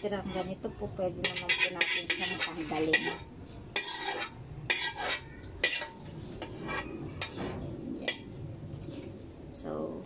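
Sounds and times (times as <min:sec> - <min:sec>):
metal skimmer scraping frying pan: 0:00.0 - 0:08.3.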